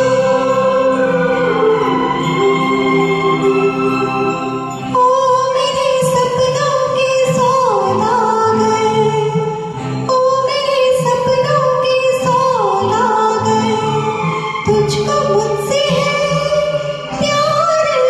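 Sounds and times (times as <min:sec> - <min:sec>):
backing track music: 0:00.0 - 0:18.0
person singing karaoke: 0:00.0 - 0:18.0.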